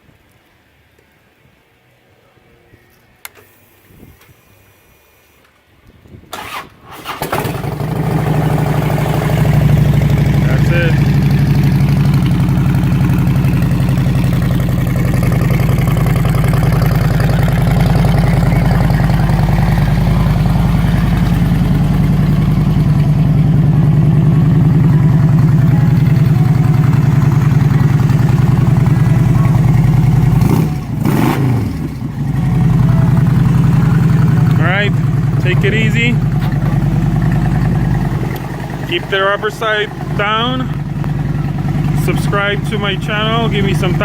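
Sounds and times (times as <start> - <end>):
motorcycle engine idling: 7.3 - 44.0.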